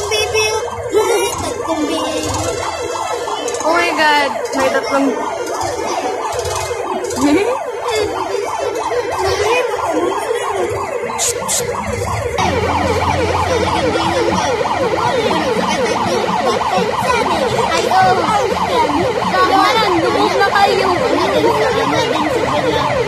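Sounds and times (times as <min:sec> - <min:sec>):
sirens yelping: 0:00.0 - 0:23.0.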